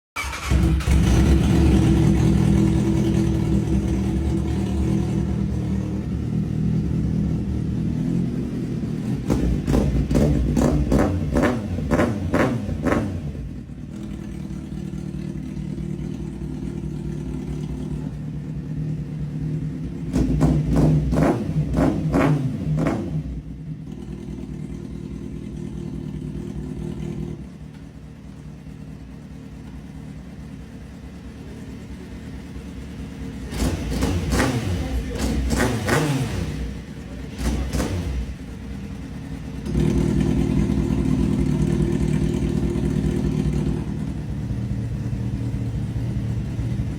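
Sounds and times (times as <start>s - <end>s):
vehicle engine revving: 0.2s - 27.4s, 33.3s - 46.9s.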